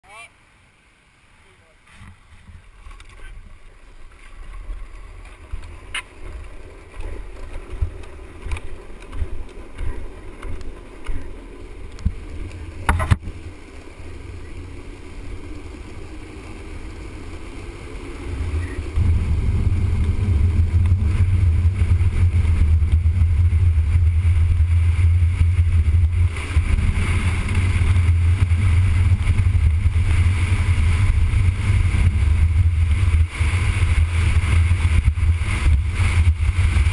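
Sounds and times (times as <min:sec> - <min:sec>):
wheels rumbling on asphalt: 0:00.7 - 0:36.9
wind rushing over microphone: 0:02.0 - 0:36.9.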